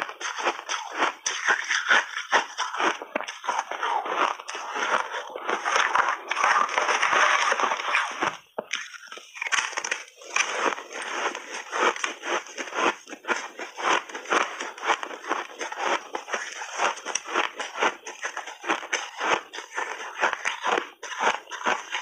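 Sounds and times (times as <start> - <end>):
ice crunching between teeth: 0.0 - 22.0.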